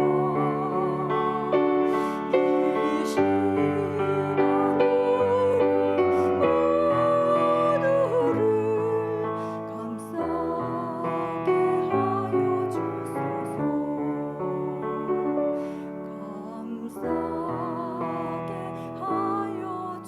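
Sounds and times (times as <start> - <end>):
woman singing a hymn: 0.0 - 14.8, 16.0 - 20.0
piano accompaniment: 0.0 - 20.0.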